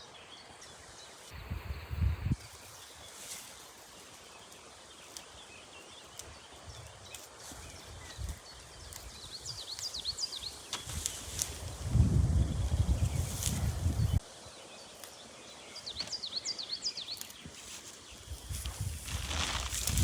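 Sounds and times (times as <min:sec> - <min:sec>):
small bird chirping: 0:01.2 - 0:18.6.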